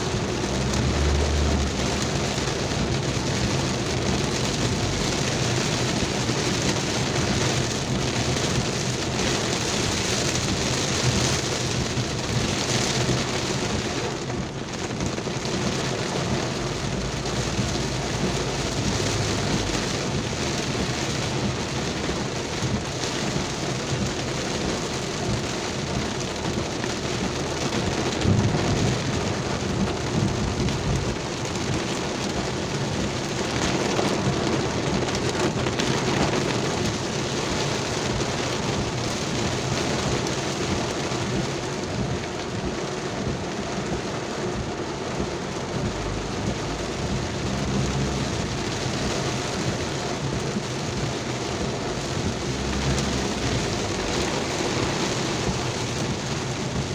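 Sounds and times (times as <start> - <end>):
heavy rain pouring: 0.0 - 56.9
low rumbles: 0.0 - 56.9.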